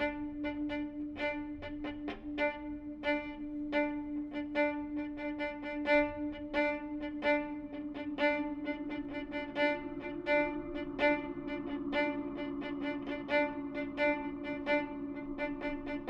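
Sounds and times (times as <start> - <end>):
viola drone note: 0.0 - 16.0.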